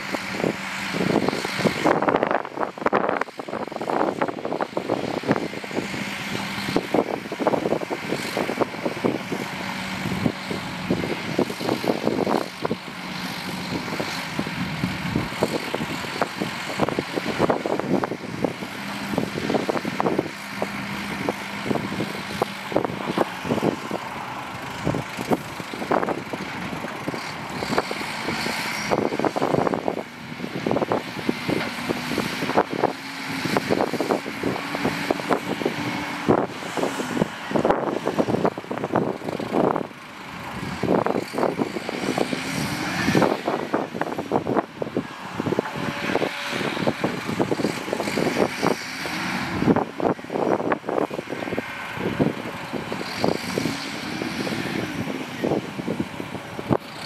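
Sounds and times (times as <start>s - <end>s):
dump truck engine running: 0.0s - 57.0s.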